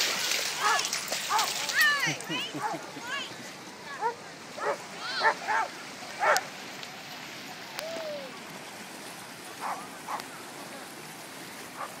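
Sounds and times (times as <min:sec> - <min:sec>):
shallow water washing: 0:00.0 - 0:12.0.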